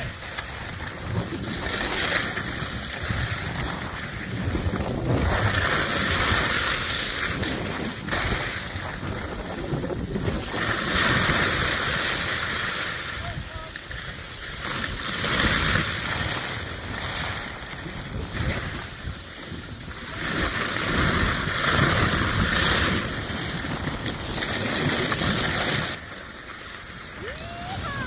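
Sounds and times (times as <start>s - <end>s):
wind on microphone: 0.0s - 26.0s, 27.2s - 28.0s
skis scraping over snow: 0.0s - 28.0s.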